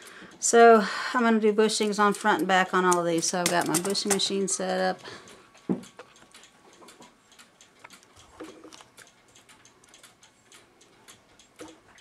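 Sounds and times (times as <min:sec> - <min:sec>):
mechanical clock ticking: 0:01.7 - 0:12.0.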